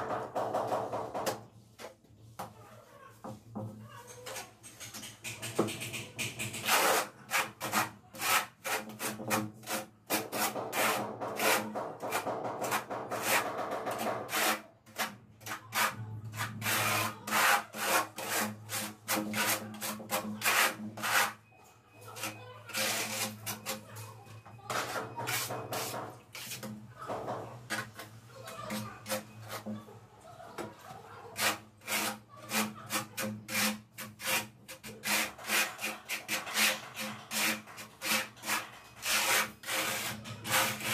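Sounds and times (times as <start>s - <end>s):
trowel scraping tile adhesive: 4.0s - 29.9s, 30.5s - 40.9s.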